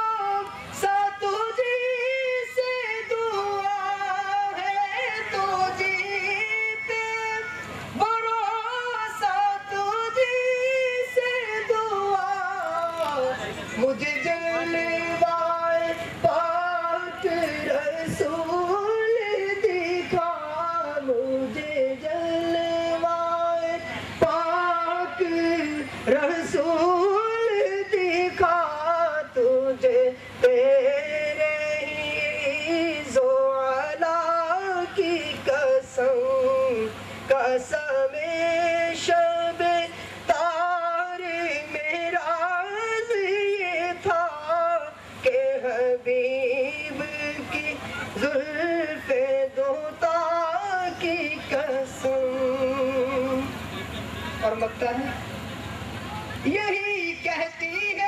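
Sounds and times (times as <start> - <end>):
person singing slow melody: 0.0 - 58.0.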